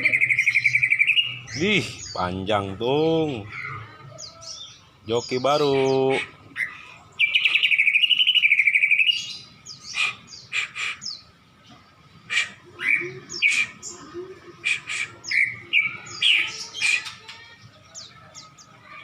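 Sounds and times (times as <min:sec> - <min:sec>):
bird trilling: 0:00.0 - 0:11.3, 0:12.2 - 0:17.4
bird chirps and calls: 0:00.0 - 0:19.0.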